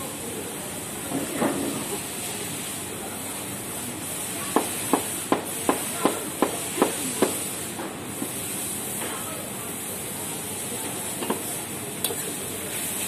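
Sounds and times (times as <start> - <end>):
gas stove hissing: 0.0 - 13.0
noodles frying in a wok: 0.0 - 13.0.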